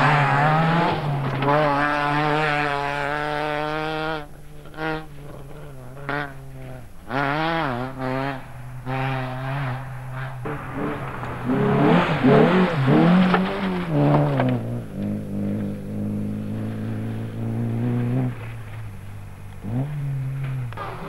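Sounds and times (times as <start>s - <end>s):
rally car engine revving: 0.0s - 21.0s
tyre and gravel noise: 0.0s - 21.0s.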